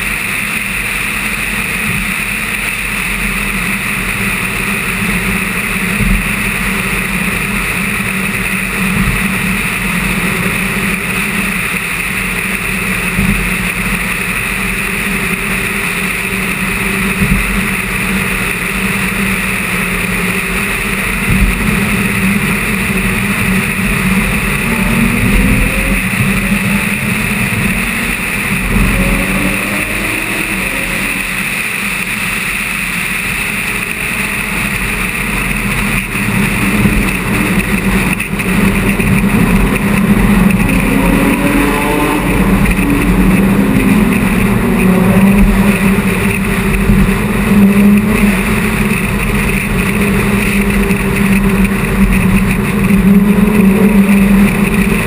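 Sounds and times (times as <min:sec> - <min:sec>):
car engine: 0:00.0 - 0:55.0.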